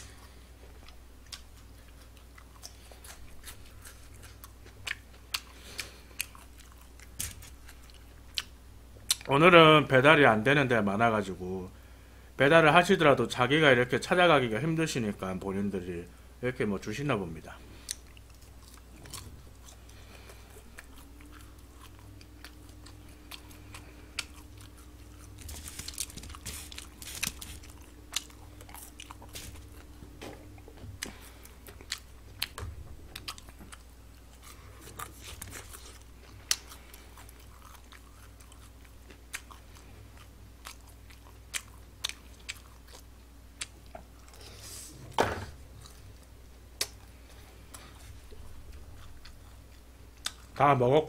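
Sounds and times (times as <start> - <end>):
person chewing food: 0.0 - 9.3, 17.6 - 44.8, 45.6 - 50.6.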